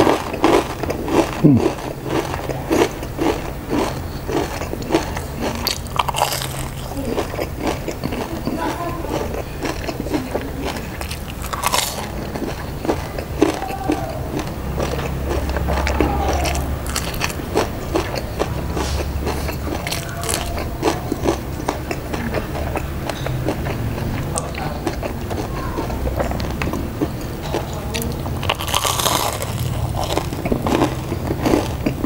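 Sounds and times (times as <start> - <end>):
crunching and chewing fried food: 0.0 - 32.0.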